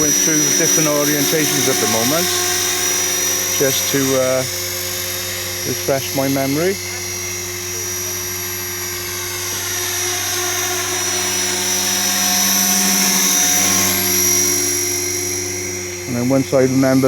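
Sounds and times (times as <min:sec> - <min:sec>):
rc helicopter motor whine: 0:00.0 - 0:17.0
rotor blades humming: 0:00.0 - 0:17.0.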